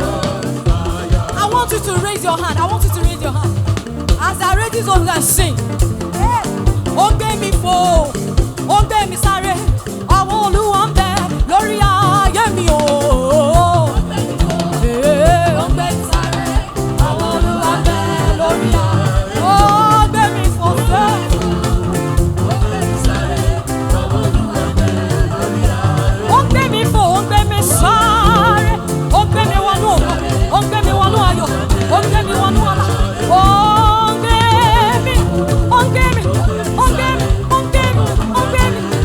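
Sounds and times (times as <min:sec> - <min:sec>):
bass line: 0:00.0 - 0:39.0
drum beat: 0:00.0 - 0:39.0.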